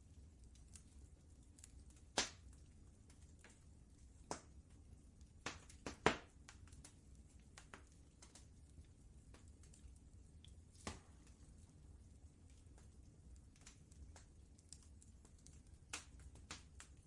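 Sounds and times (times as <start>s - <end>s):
faint low rumble: 0.0s - 17.0s
wood fire crackling: 0.0s - 17.0s.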